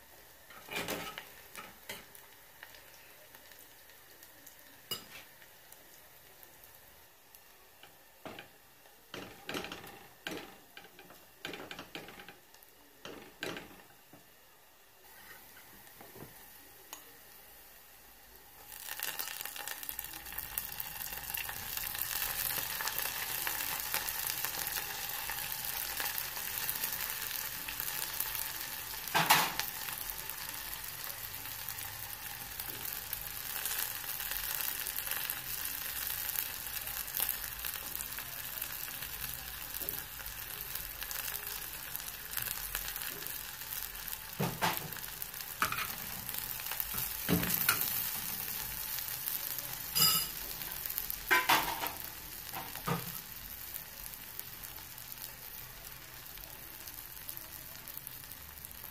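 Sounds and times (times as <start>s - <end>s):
fish frying in hot oil: 0.0s - 14.1s, 15.0s - 58.9s.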